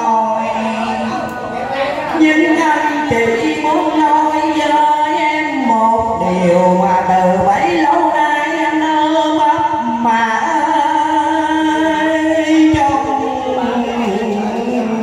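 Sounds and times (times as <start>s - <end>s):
man singing: 2.1s - 15.0s.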